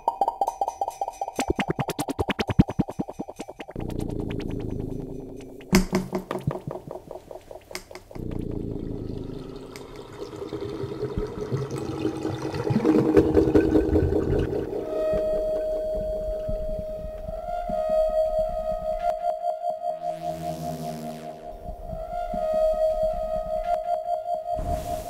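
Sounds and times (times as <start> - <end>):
electronic ambient music: 0.0 - 25.0.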